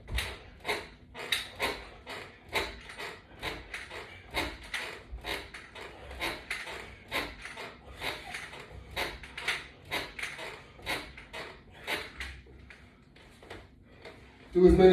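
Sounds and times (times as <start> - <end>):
resistance band creaking and rubbing: 0.0 - 14.9.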